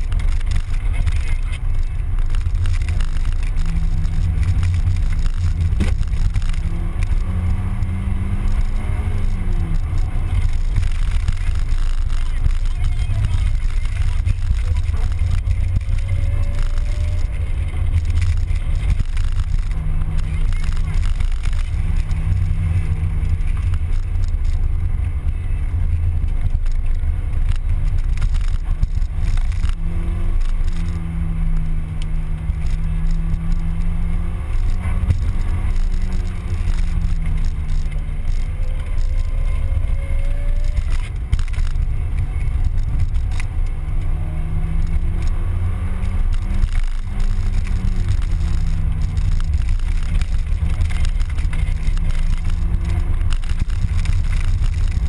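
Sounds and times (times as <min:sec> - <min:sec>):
car engine running: 0:00.0 - 0:55.0
wind and road rumble: 0:00.0 - 0:55.0.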